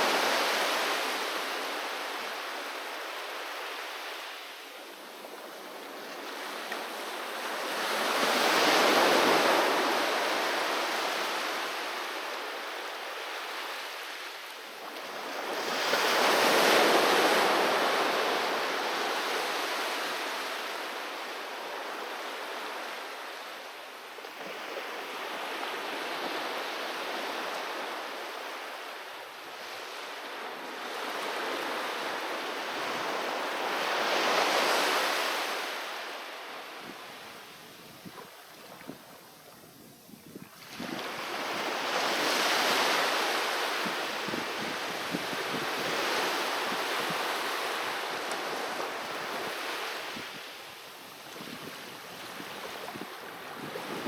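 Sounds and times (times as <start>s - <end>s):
waves crashing on a beach: 0.0s - 54.0s.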